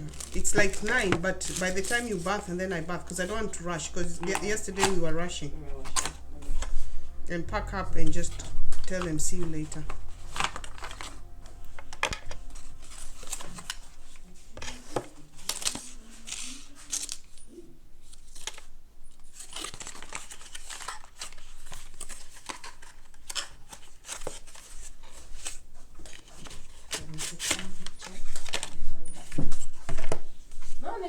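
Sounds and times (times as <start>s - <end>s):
packaging crinkling and tearing: 0.0s - 7.2s, 9.7s - 17.4s, 18.0s - 29.8s.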